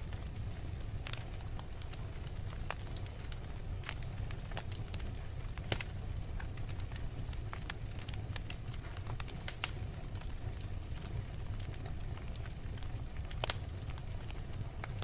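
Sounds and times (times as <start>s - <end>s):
fire crackles and pops: 0.0s - 15.0s
logs burning in a fireplace: 0.0s - 15.0s.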